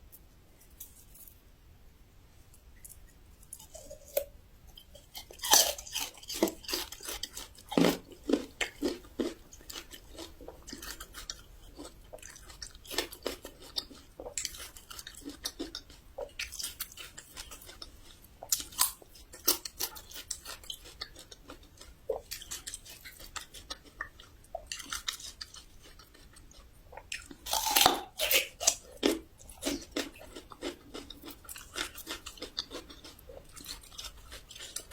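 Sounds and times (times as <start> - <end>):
person chewing crunchy ginger: 3.4 - 34.9.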